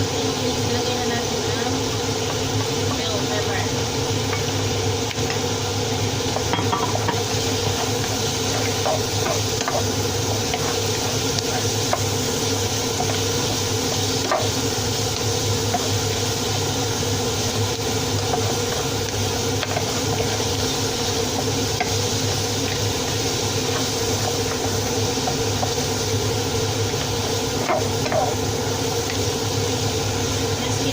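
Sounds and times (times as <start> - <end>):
pepper sizzling in a pan: 0.0 - 30.9.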